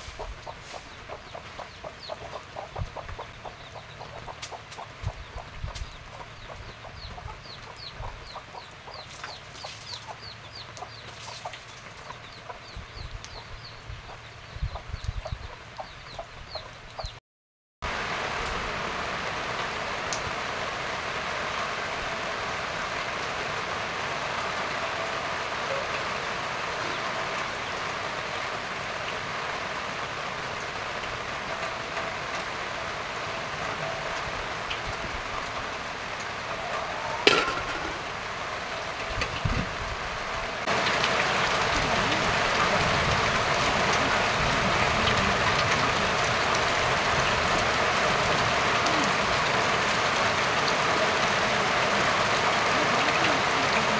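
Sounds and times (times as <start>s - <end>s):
rain falling and dripping: 0.0s - 17.2s, 17.8s - 53.9s.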